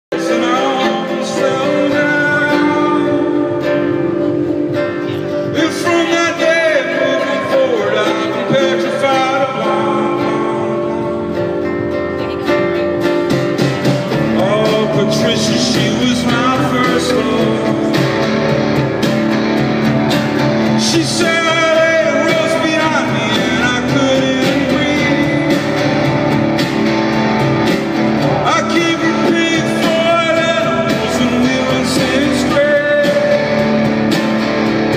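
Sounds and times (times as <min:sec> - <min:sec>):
man singing: 0:00.1 - 0:13.0, 0:14.0 - 0:19.3, 0:20.4 - 0:26.9, 0:28.2 - 0:34.9
classical guitar playing: 0:00.2 - 0:34.9.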